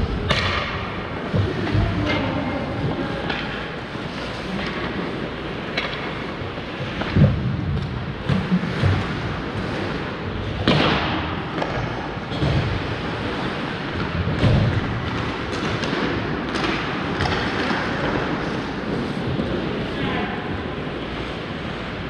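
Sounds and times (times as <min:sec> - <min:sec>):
pucks and sticks thudding: 0:00.0 - 0:22.0
skating rush: 0:00.0 - 0:22.0.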